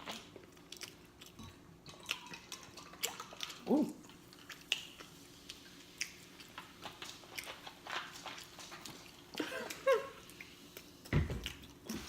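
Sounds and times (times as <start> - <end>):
chewing and lip-smacking: 0.0 - 12.0.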